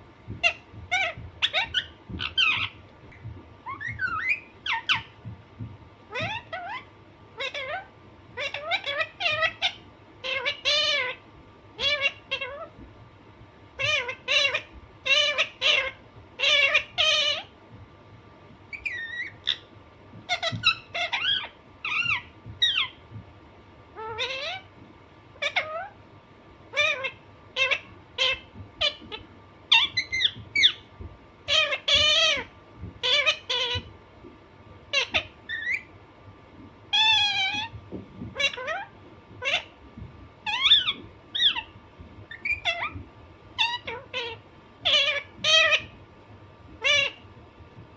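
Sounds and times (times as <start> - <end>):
parakeet calling: 0.3 - 5.3, 6.1 - 11.2, 11.8 - 12.8, 13.8 - 17.6, 18.7 - 23.0, 24.0 - 24.7, 25.4 - 26.0, 26.7 - 33.9, 34.9 - 36.0, 36.9 - 46.0, 46.7 - 47.3.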